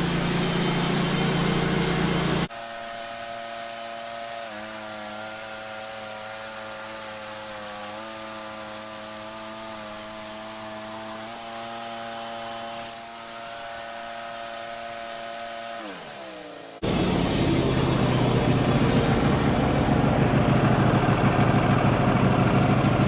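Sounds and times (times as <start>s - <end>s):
band sawmill cutting log: 0.0s - 23.0s.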